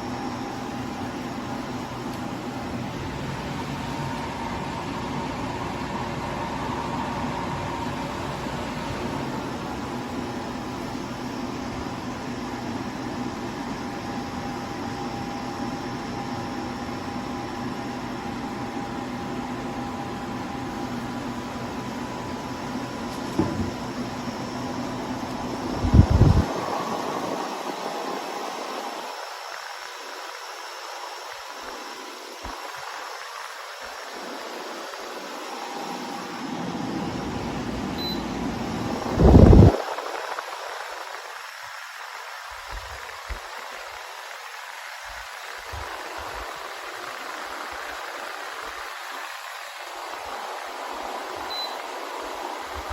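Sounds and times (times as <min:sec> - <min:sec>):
air conditioner fan rush: 0:00.0 - 0:52.9
constant hum: 0:00.0 - 0:52.9
faint high whine: 0:00.0 - 0:52.9.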